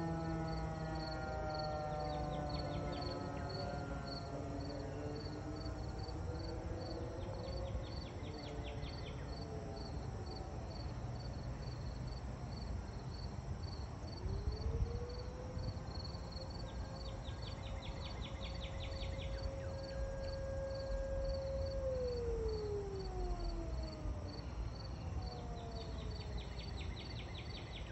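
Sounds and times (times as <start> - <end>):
insects chirping: 0.0 - 27.9.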